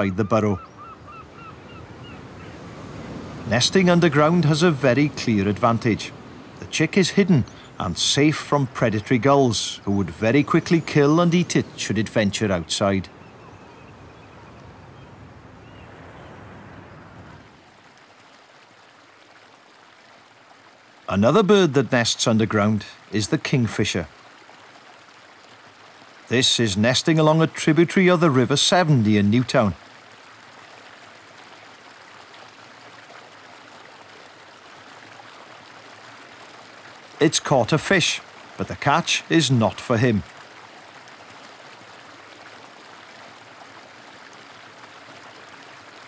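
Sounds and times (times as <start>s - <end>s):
water: 0.0s - 46.0s
wind: 0.0s - 46.0s.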